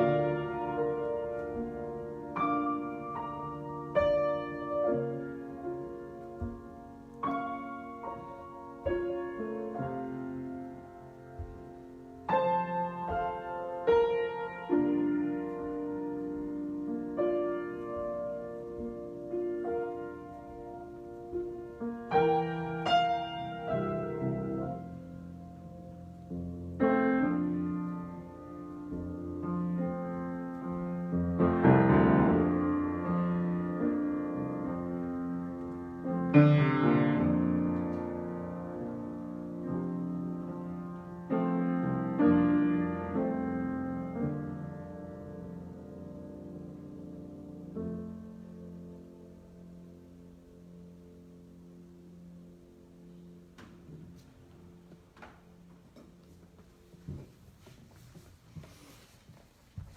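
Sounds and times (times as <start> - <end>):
piano chords: 0.0 - 59.0.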